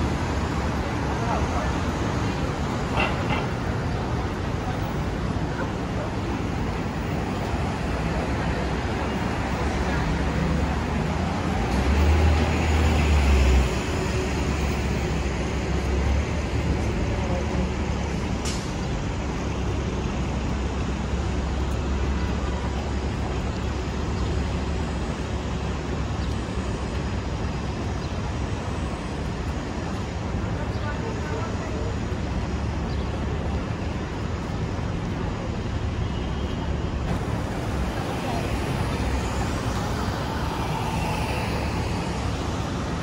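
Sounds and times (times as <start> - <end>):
city street traffic: 0.0 - 43.0
low engine rumble: 0.0 - 43.0.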